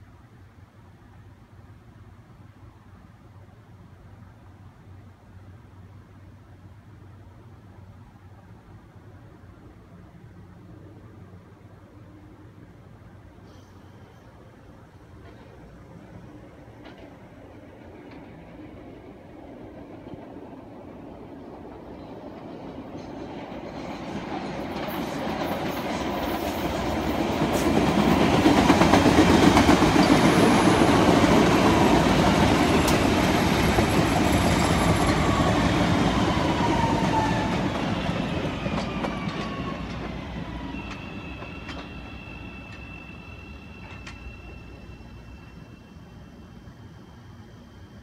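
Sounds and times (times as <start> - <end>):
electric train passing: 0.0 - 48.0.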